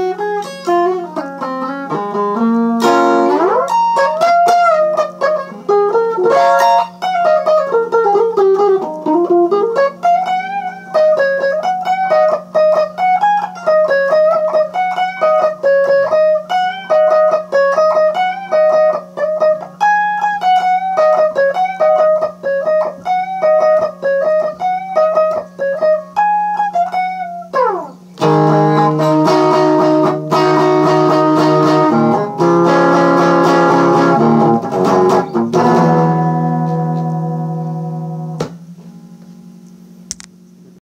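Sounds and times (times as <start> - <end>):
acoustic guitar playing: 0.0 - 39.6.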